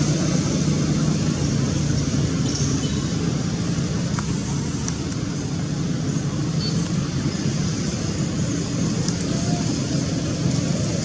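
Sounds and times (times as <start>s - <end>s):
low rumble of background noise: 0.0s - 11.0s.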